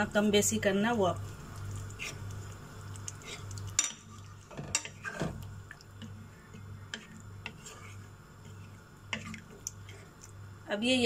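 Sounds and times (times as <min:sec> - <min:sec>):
low steady hum: 0:00.0 - 0:11.0
spoon stirring in a pot: 0:01.0 - 0:10.4.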